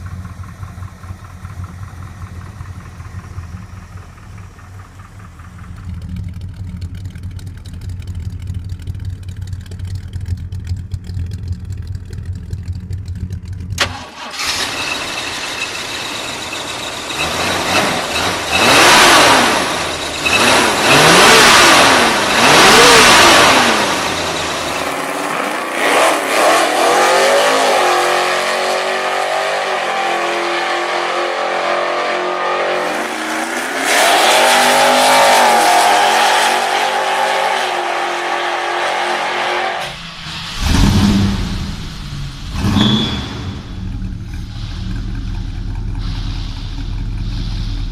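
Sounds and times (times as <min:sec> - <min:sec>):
car engine revving: 0:00.0 - 0:47.9
car engine rumbling: 0:00.0 - 0:47.9.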